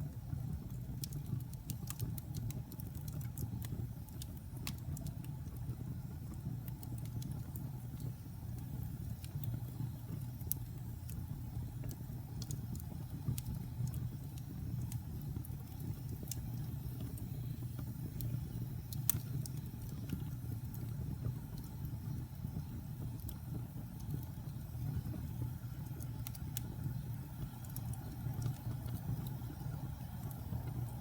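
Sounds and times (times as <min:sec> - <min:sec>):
fire crackles and pops: 0:00.0 - 0:31.0
low rumble of fire flames: 0:00.0 - 0:31.0.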